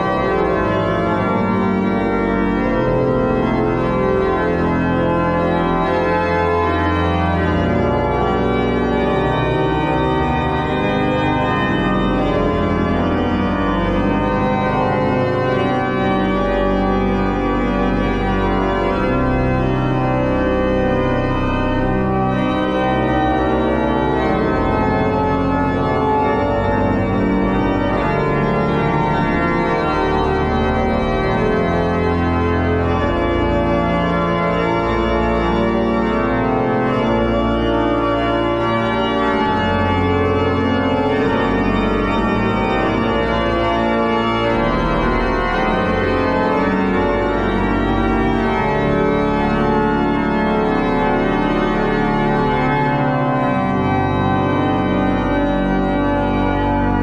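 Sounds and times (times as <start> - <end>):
pipe organ chords: 0.0 - 57.0.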